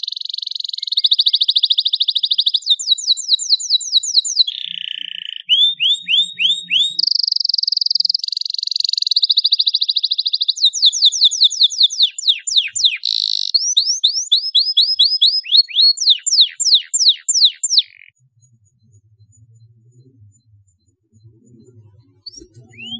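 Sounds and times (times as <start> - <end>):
canary singing trills: 0.0 - 19.8, 20.7 - 22.9.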